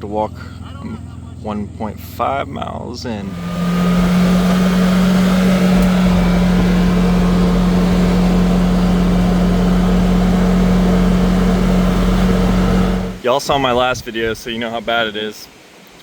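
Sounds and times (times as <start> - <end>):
engine humming steadily: 0.0 - 13.2.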